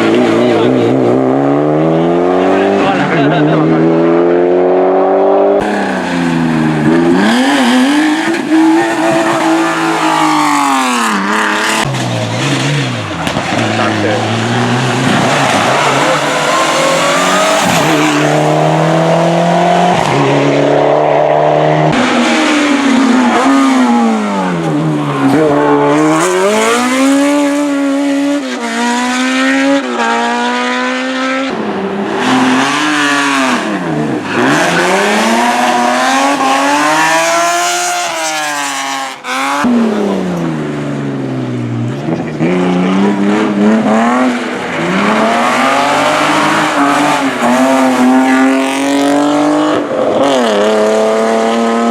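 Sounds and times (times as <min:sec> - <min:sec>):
race car engine at high revs: 0:00.0 - 0:51.9.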